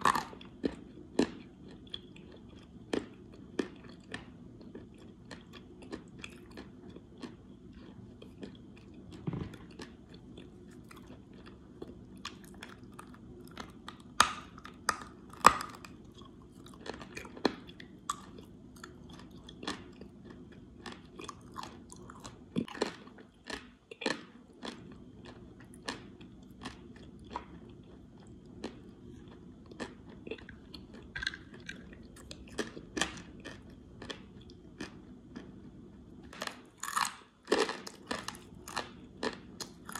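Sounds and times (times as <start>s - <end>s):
clay being chewed crunching: 0.0s - 39.9s.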